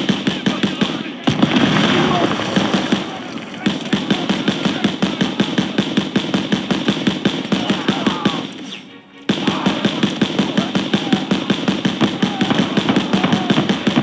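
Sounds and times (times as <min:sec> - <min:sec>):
video game machine-gun fire: 0:00.0 - 0:08.7, 0:09.3 - 0:14.0.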